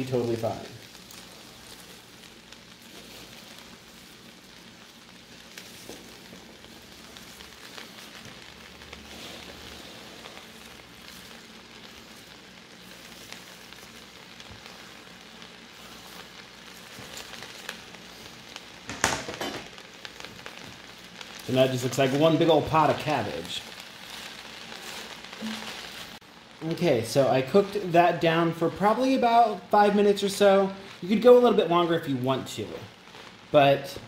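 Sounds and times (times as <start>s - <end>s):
garlic and onion sizzling: 0.0s - 34.0s.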